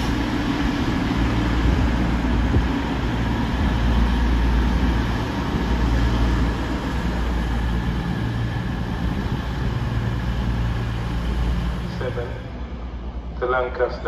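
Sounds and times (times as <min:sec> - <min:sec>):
train hum and rumble: 0:00.0 - 0:14.0.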